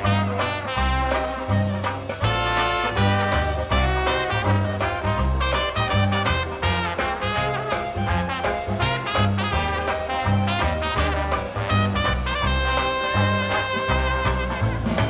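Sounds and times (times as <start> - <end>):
swing music with brass: 0.0 - 15.0.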